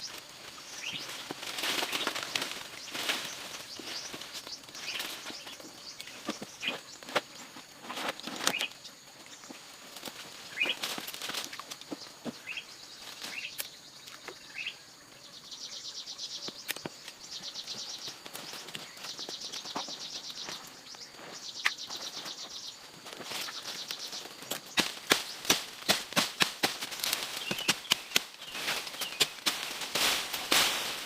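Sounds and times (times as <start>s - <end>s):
birds chirping: 0.0s - 7.6s, 10.2s - 31.0s.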